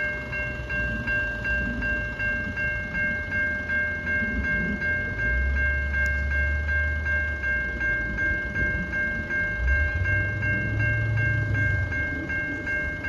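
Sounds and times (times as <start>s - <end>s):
level crossing bell ringing: 0.0s - 13.0s.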